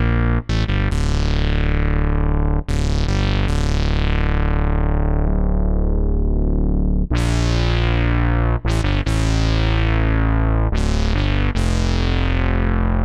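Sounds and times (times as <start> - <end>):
synthesizer low sustained notes: 0.0 - 13.0.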